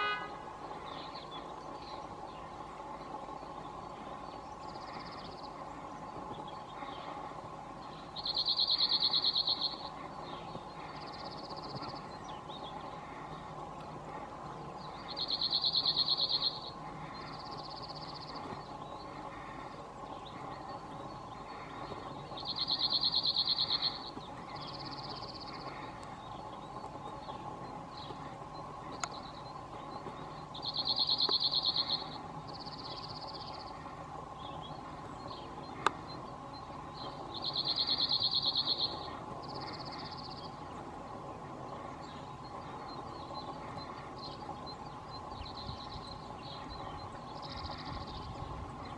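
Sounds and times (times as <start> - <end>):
bird singing dry trills: 0.0 - 48.9.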